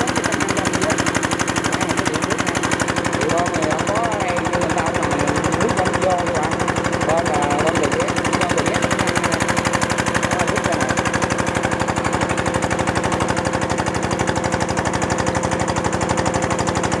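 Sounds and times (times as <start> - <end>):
diesel engine putter: 0.0 - 17.0.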